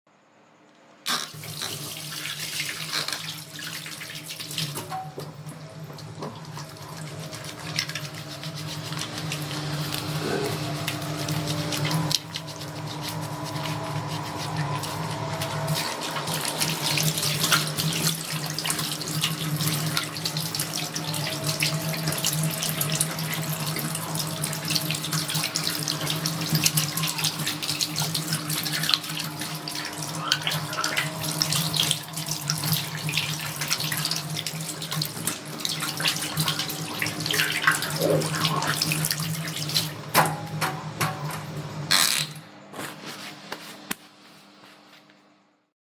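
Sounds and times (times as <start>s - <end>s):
hands washing splashing: 1.1s - 42.1s
tap water running into sink: 1.1s - 42.3s
steady low hum: 4.8s - 41.9s.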